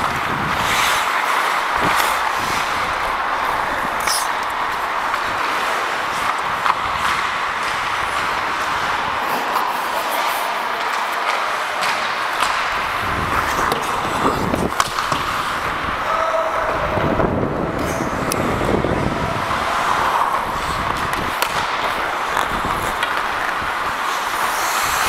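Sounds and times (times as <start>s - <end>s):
sticks and pucks knocking: 0.0s - 15.8s, 19.4s - 25.0s
ice skates scraping: 0.0s - 25.0s.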